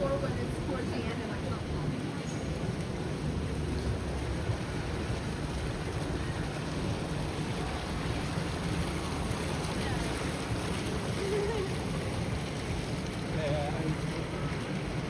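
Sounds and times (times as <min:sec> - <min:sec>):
low city rumble and hiss: 0:00.0 - 0:15.0.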